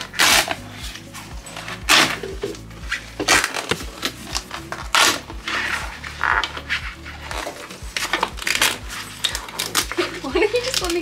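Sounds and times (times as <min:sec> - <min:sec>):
background music with steady beat: 0:00.0 - 0:11.0
blade scraping vinyl: 0:00.0 - 0:11.0.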